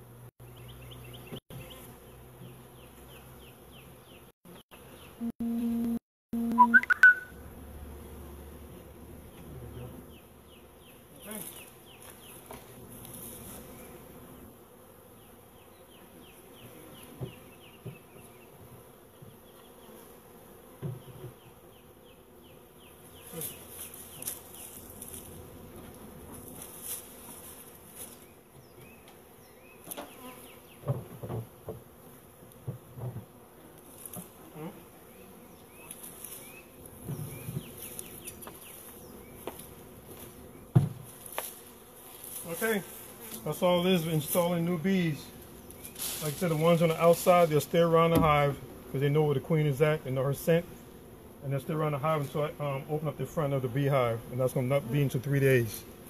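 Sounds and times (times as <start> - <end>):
bee buzzing close by: 0.1 - 56.0
bees humming: 0.4 - 56.0.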